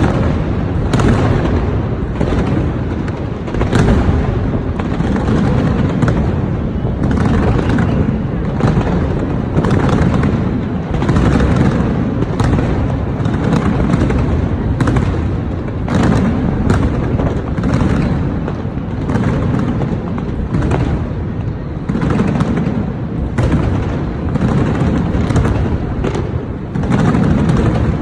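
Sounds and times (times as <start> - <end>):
fireworks rumbling: 0.0 - 28.0
fireworks sharp bangs: 0.0 - 28.0.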